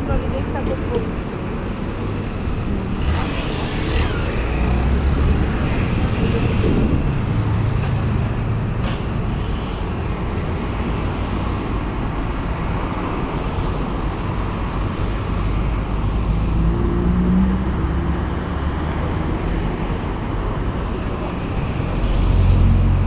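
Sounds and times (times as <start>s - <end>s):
cars driving past: 1.0s - 23.0s.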